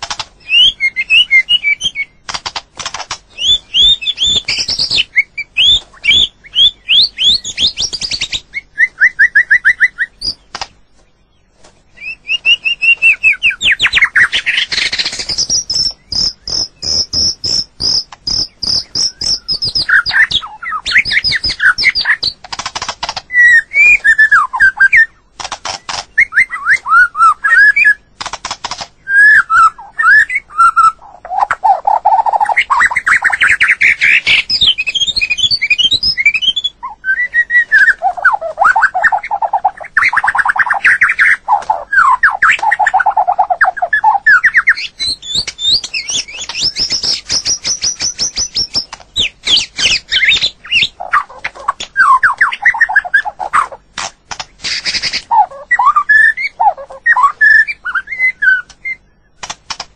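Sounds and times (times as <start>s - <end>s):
bird singing whistles and trills: 0.4s - 2.3s, 3.3s - 10.6s, 11.3s - 22.4s, 23.2s - 28.1s, 29.0s - 53.8s, 54.7s - 59.4s.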